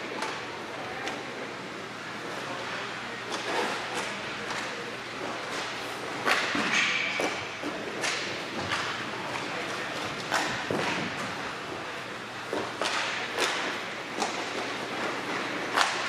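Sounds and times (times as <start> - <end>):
hockey sticks striking puck: 2.5 - 16.0.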